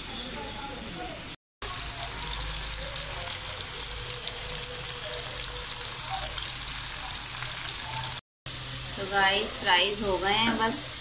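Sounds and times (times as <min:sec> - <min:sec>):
fries sizzling in hot oil: 0:01.6 - 0:11.0.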